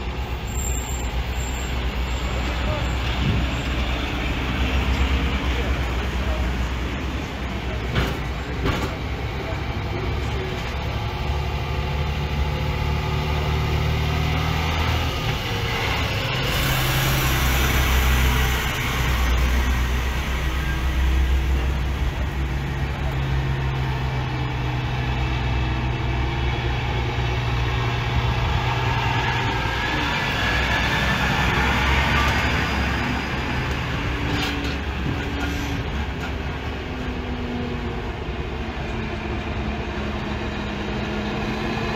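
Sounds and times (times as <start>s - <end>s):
truck diesel engines droning: 0.0s - 41.9s.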